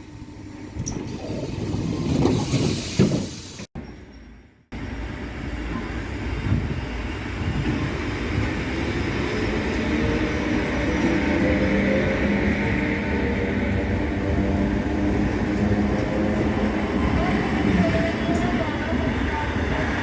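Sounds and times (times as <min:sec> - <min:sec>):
train wheels rumbling on rails: 0:00.8 - 0:20.0.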